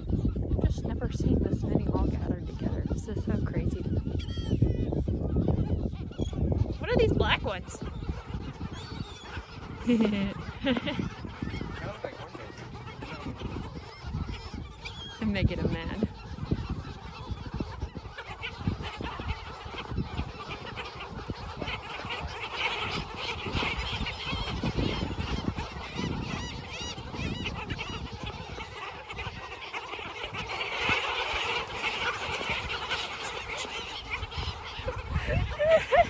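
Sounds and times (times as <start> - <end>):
flock of birds calling: 0.0 - 36.0.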